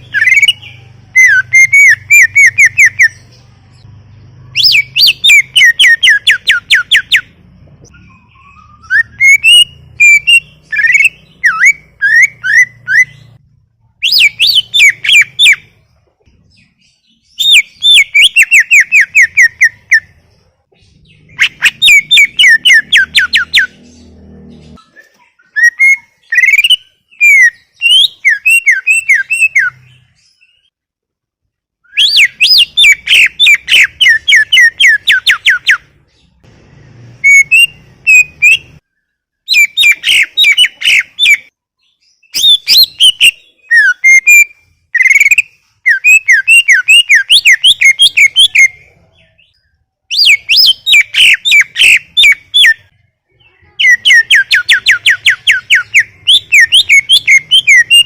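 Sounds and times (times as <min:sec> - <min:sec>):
bird singing chirps and whistles: 0:00.0 - 0:15.8, 0:16.5 - 0:20.2, 0:20.8 - 0:30.8, 0:31.8 - 0:36.3, 0:37.2 - 0:52.9, 0:53.8 - 0:58.0.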